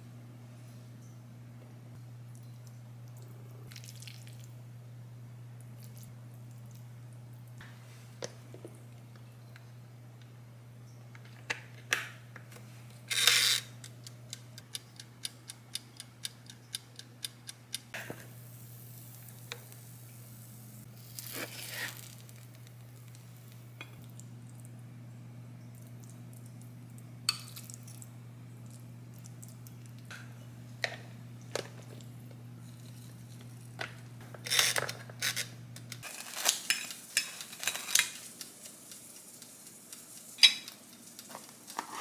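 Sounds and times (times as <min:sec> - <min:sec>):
steady low hum: 0:00.0 - 0:36.1.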